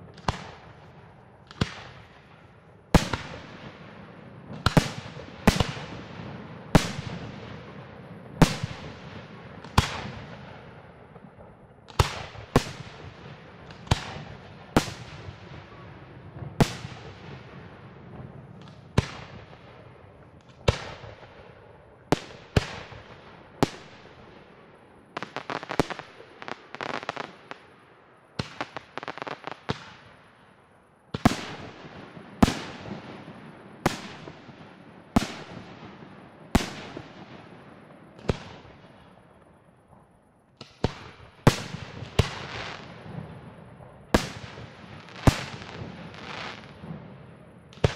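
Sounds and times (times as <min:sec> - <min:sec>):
crackling firework reports: 0:00.0 - 0:47.9.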